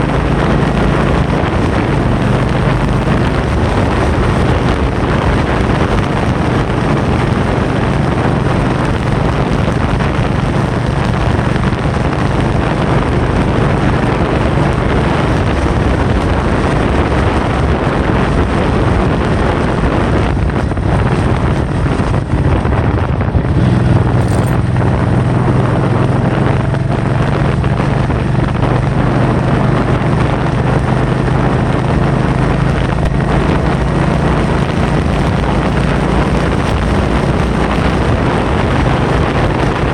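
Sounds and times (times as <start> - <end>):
wind battering microphone: 0.0 - 39.9.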